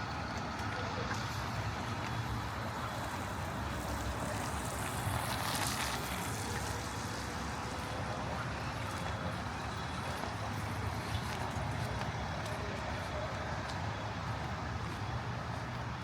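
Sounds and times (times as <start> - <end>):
low traffic rumble: 0.0 - 16.0
tyres hissing on wet pavement: 0.2 - 15.8.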